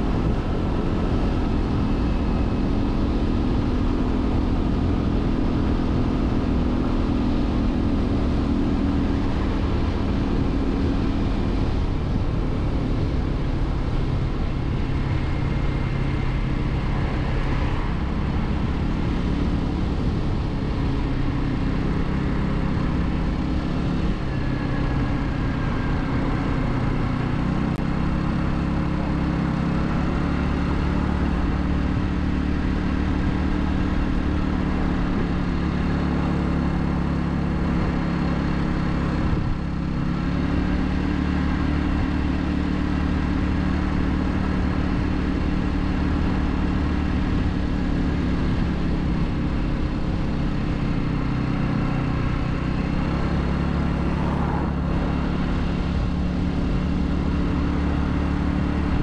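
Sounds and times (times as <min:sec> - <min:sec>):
road and wind noise: 0:00.0 - 0:59.0
scooter engine running: 0:00.0 - 0:59.0.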